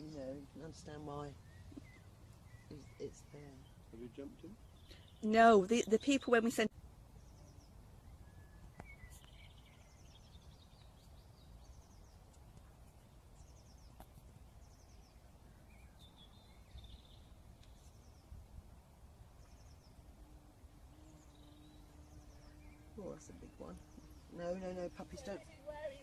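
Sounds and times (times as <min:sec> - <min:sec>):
faint birdsong chirps: 0:00.0 - 0:26.0.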